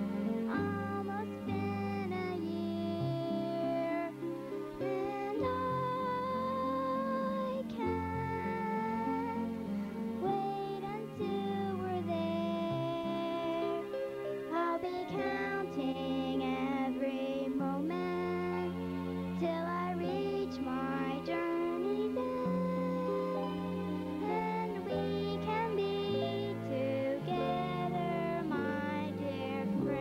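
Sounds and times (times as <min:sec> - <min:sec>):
instrumental accompaniment: 0:00.0 - 0:30.0
girl singing into a microphone: 0:00.5 - 0:09.6, 0:10.2 - 0:13.8, 0:14.5 - 0:23.6, 0:24.2 - 0:30.0.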